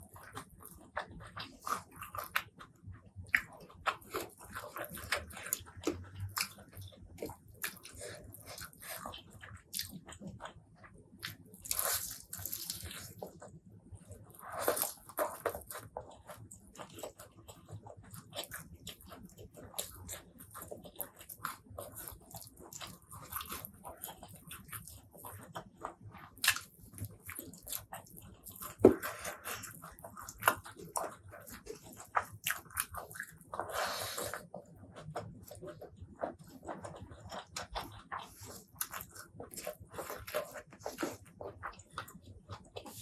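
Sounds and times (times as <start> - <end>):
person chewing and crunching food: 0.0 - 43.0.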